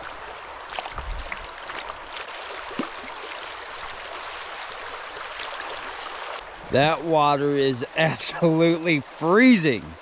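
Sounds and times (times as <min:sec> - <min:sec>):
river water running: 0:00.0 - 0:10.0.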